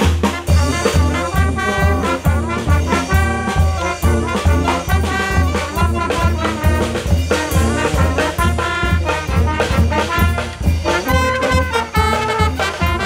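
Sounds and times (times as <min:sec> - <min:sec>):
wind band playing swing tune: 0:00.0 - 0:13.0.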